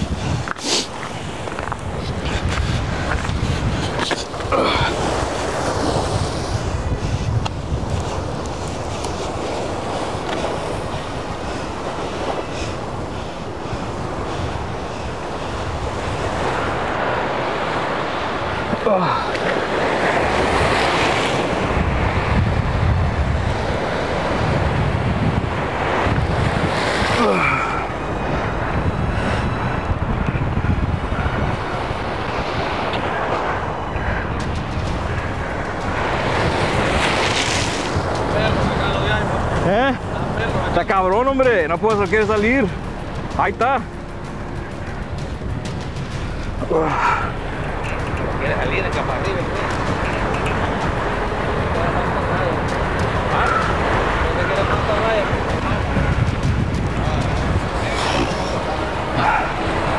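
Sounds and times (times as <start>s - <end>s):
waves breaking against rocks: 0.0s - 59.9s
wind buffeting microphone: 0.0s - 59.9s.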